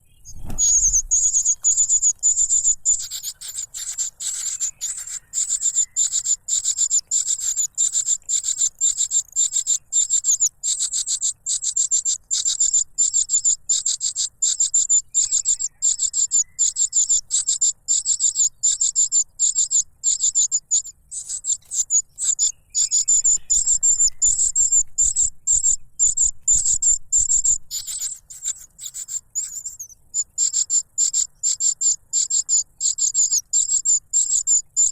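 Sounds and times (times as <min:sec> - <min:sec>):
chick begging calls: 0:00.0 - 0:34.9.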